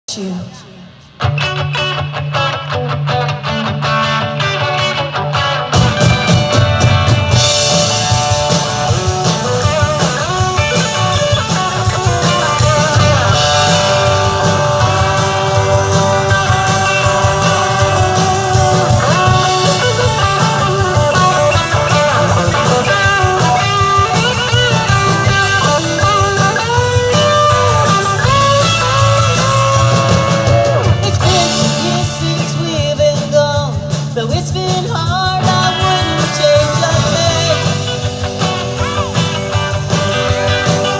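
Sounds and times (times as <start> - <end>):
drums: 0.0 - 40.9
electric guitar: 0.1 - 40.9.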